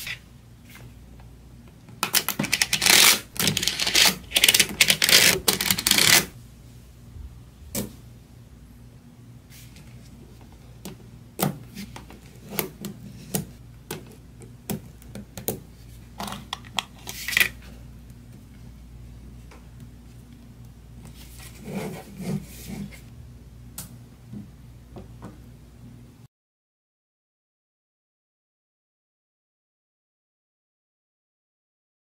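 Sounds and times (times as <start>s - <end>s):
faint steady hum: 0.0s - 26.3s.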